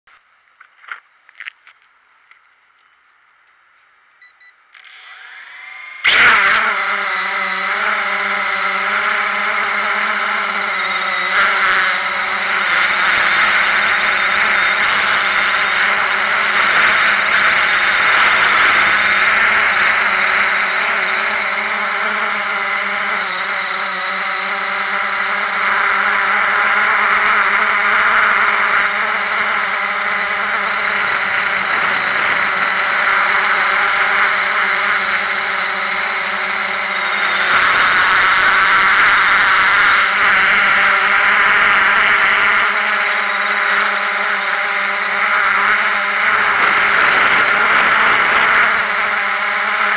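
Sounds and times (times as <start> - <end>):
drone propellers whirring: 4.7 - 49.9.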